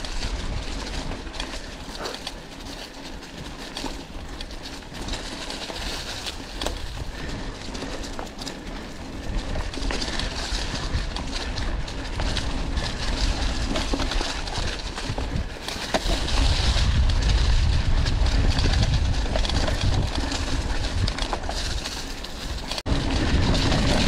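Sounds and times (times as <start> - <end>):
bike rattling and clicking: 0.0 - 24.0
bike tyres rolling on dirt: 0.0 - 24.0.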